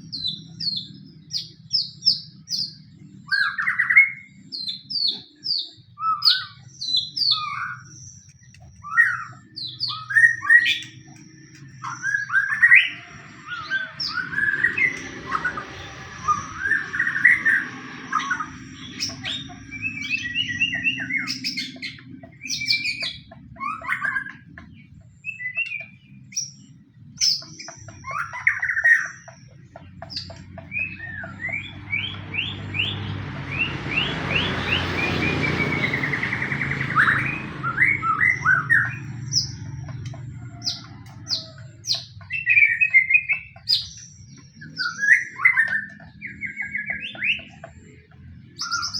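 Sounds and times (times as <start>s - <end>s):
bird singing whistles and trills: 0.0s - 48.9s.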